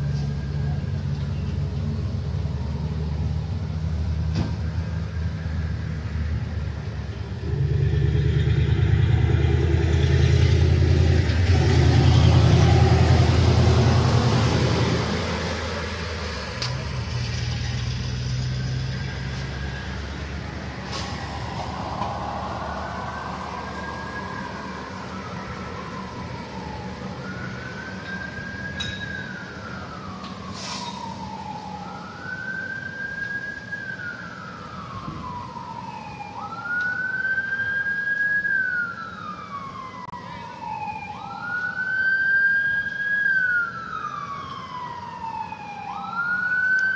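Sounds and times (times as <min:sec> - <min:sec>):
emergency vehicle siren wailing: 0:00.0 - 0:46.9
low vehicle engine rumble: 0:00.0 - 0:46.9.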